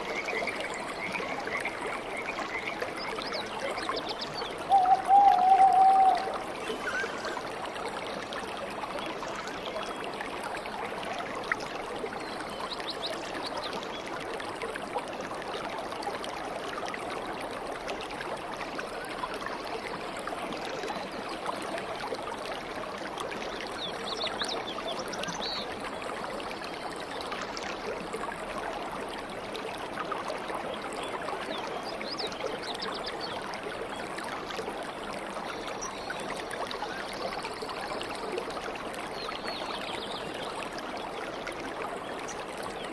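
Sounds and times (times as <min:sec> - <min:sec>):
stream babbling: 0:00.0 - 0:42.9.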